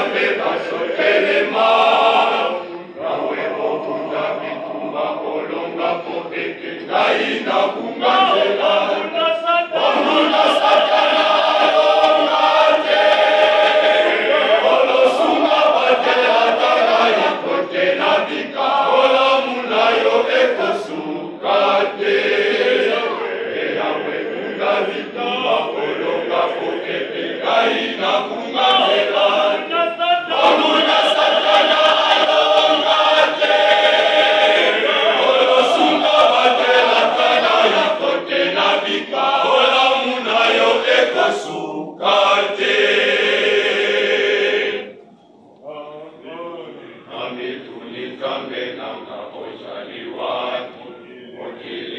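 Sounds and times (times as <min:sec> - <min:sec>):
choir singing in harmony: 0:00.0 - 0:51.9.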